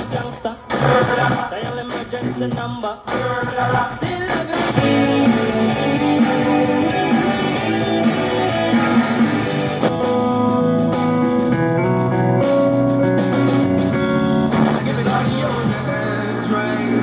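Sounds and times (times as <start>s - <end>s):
guitar rock music through speakers: 0.0s - 17.0s.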